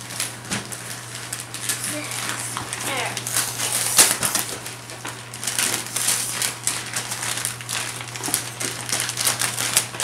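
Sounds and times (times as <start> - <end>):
wrapping paper crinkling and tearing: 0.0 - 10.0.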